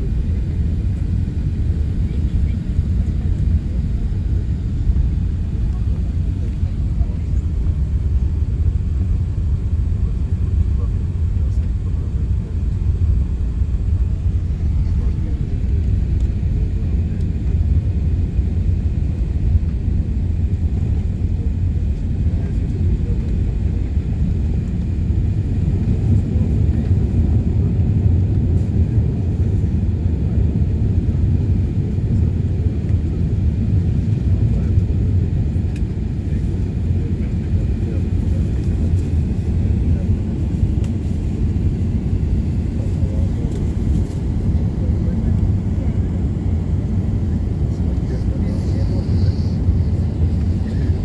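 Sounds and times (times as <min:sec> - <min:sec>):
airplane cabin rumble: 0:00.0 - 0:51.0.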